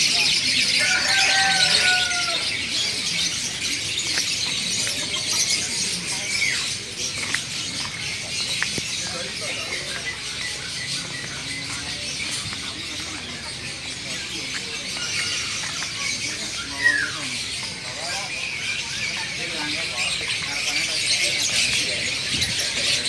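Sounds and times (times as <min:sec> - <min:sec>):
caged birds chirping: 0:00.0 - 0:23.0.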